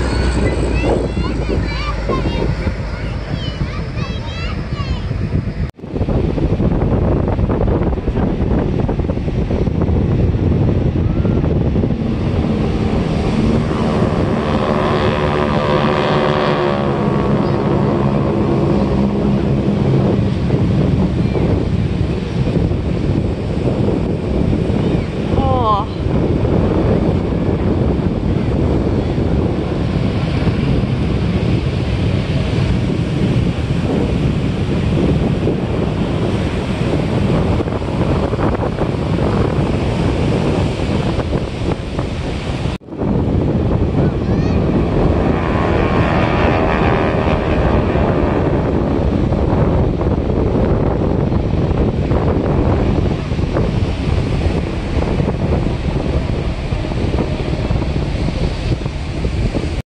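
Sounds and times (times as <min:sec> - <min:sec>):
ocean surf: 0:00.0 - 0:06.6, 0:07.3 - 0:59.8
wind buffeting microphone: 0:00.0 - 0:59.8.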